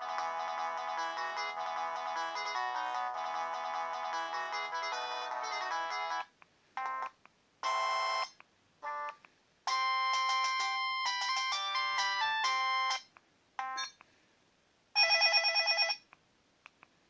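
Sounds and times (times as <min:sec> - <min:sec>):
mobile phone ringtone melody: 0:00.0 - 0:09.1, 0:09.7 - 0:14.0, 0:15.0 - 0:16.0.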